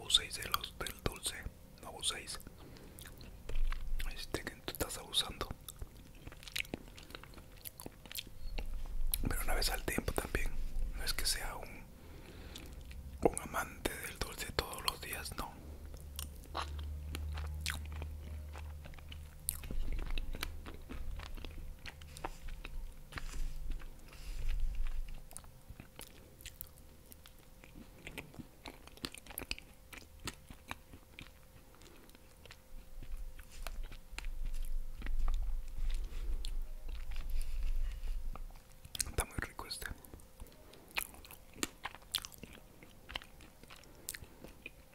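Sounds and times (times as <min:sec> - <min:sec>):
close chewing with mouth smacks: 0:02.2 - 0:10.5, 0:12.4 - 0:44.9.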